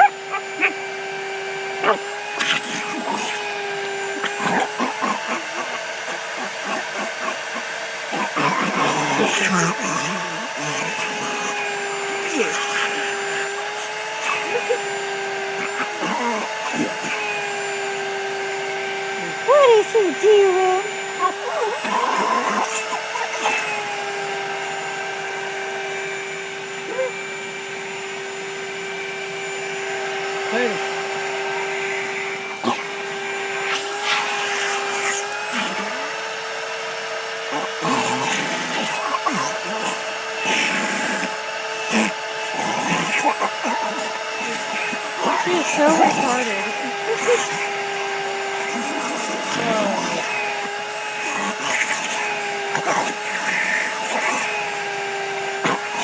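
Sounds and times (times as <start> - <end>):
vacuum cleaner motor whining: 0.0 - 56.0.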